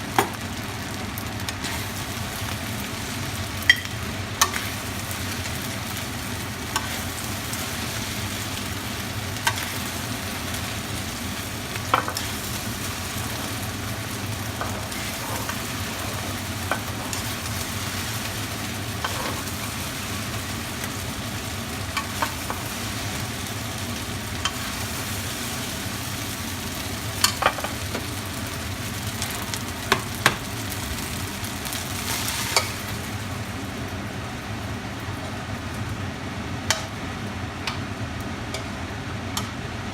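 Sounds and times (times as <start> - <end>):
noodles sizzling in a hot pan: 0.0 - 39.9.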